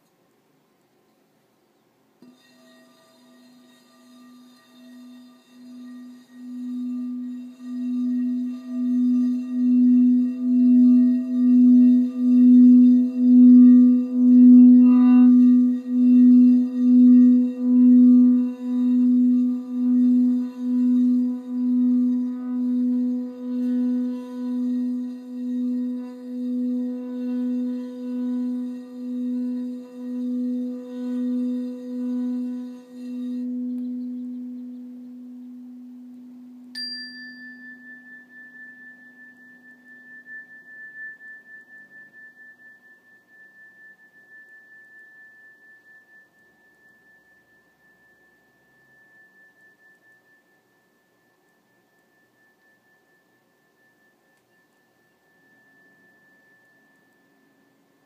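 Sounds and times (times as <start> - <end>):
singing bowl ringing: 2.2 - 58.0.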